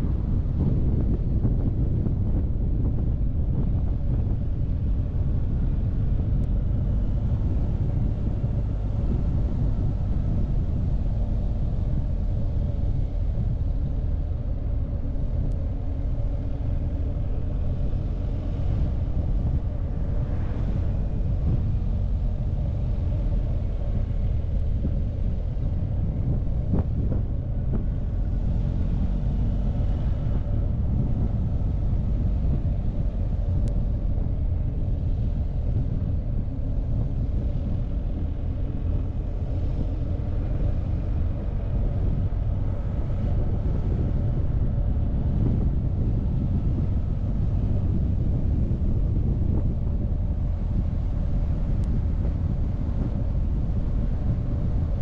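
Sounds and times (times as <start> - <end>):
wind rumbling over microphone: 0.0 - 55.0.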